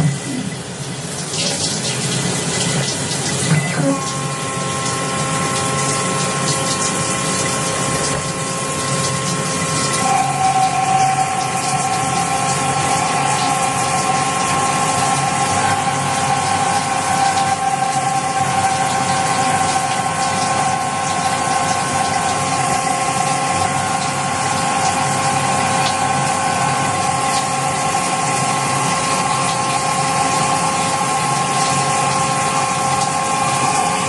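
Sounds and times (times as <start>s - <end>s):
lathe running: 0.0s - 34.0s
motor whine: 0.0s - 34.0s.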